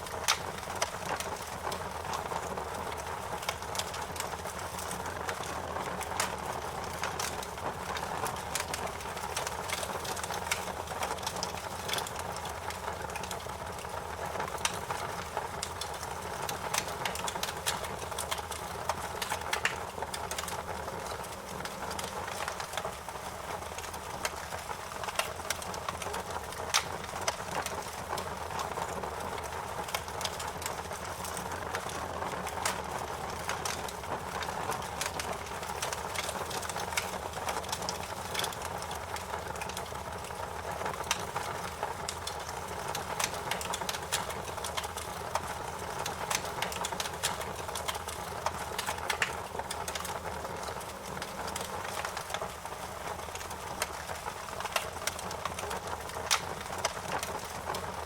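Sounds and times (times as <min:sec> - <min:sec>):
campfire flames rushing: 0:00.0 - 0:58.0
fire crackles and pops: 0:00.0 - 0:58.0.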